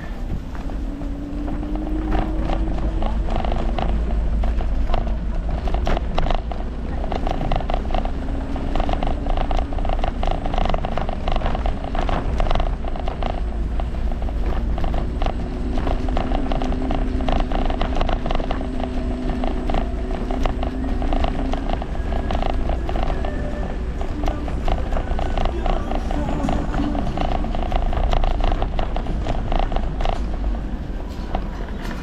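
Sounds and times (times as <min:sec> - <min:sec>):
electric scooter rumble: 0:00.0 - 0:32.0
small clicks and rattles: 0:00.0 - 0:32.0.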